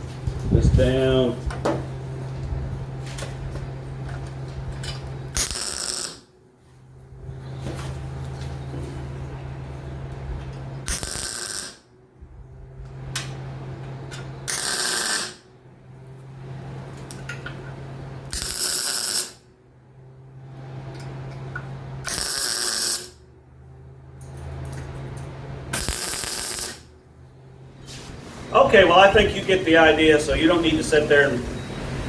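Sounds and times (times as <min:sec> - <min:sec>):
arc welder crackling: 0:00.0 - 0:19.6, 0:20.3 - 0:32.0
welder low hum: 0:00.0 - 0:32.0.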